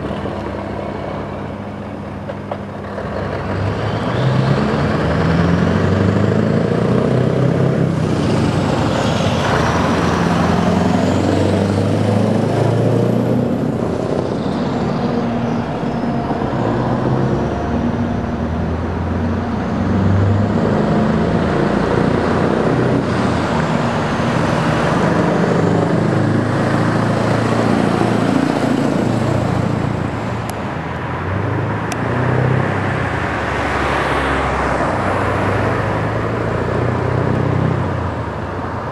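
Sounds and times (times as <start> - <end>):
trucks driving past: 0.0 - 38.9.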